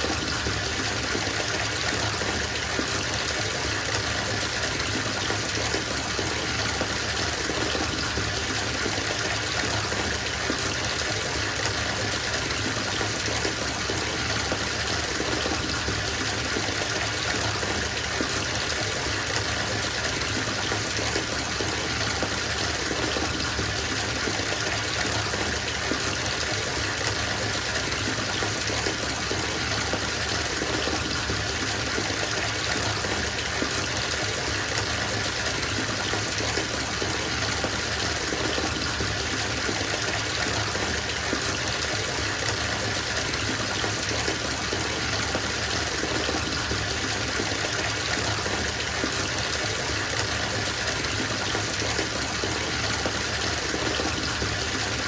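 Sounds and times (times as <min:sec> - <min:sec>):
water running into a bathtub: 0:00.0 - 0:55.0.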